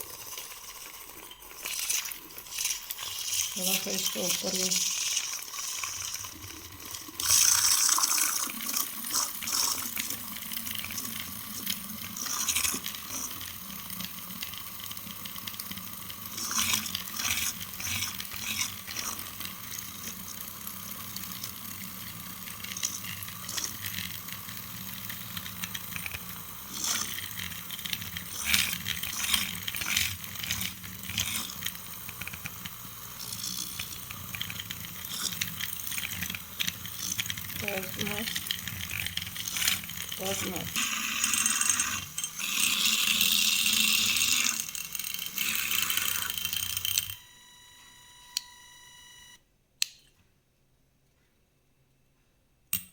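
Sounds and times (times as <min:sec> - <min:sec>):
water running: 0:00.0 - 0:47.2.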